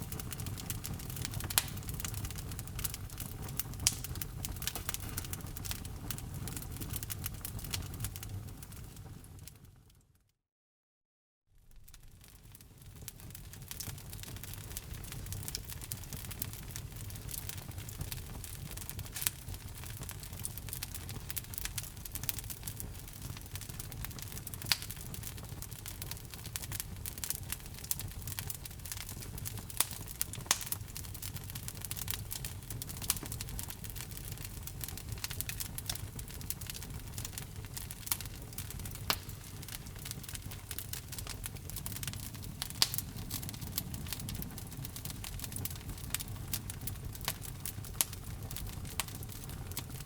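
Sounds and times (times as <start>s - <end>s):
wood fire crackling: 0.0s - 9.7s, 11.6s - 50.0s
low rumble of flames: 0.0s - 9.8s, 11.6s - 50.0s.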